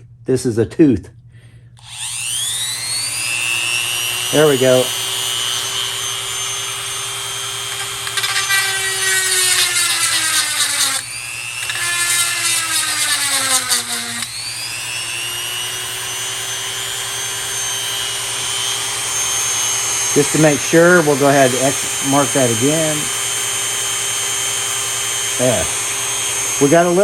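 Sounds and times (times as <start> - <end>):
chainsaw sharpener motor running: 1.8 - 27.0.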